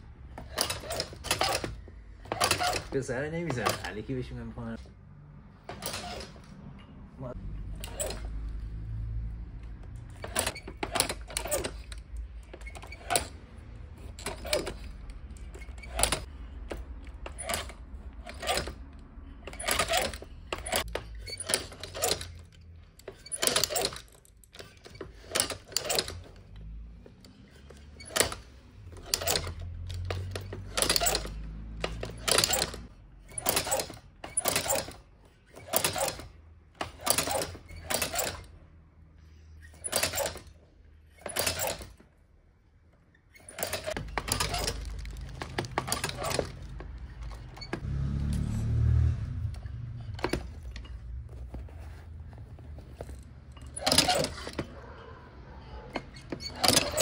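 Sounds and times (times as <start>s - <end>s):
sewing machine clacking: 0.0s - 4.8s, 5.6s - 6.5s, 7.6s - 8.8s, 9.8s - 38.5s, 39.7s - 42.0s, 43.3s - 47.8s, 51.7s - 55.0s, 55.7s - 57.0s.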